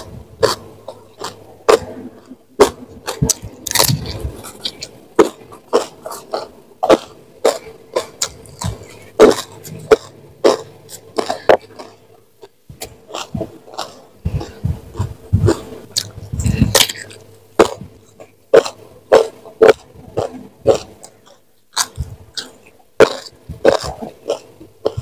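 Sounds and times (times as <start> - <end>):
crisp crunching chews: 0.0 - 25.0.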